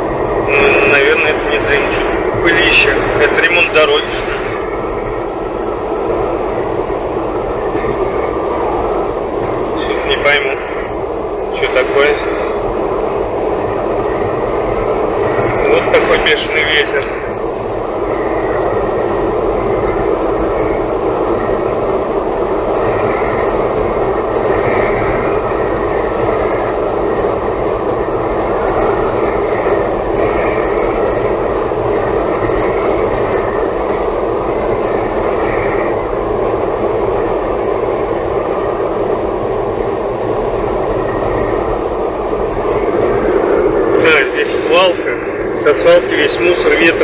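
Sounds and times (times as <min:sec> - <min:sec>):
road noise inside car: 0:00.0 - 0:47.0
strong wind: 0:00.0 - 0:47.0.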